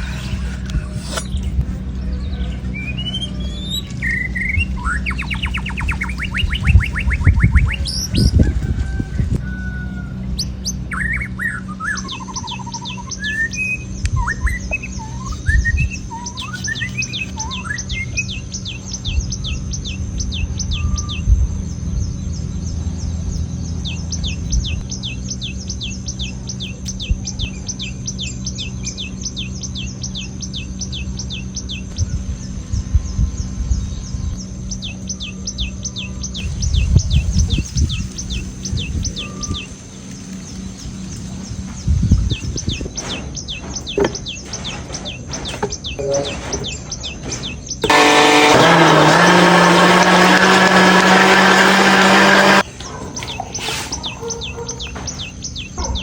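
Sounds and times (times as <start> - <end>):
birds chirping: 0.0 - 56.0
steady low hum: 0.0 - 56.0.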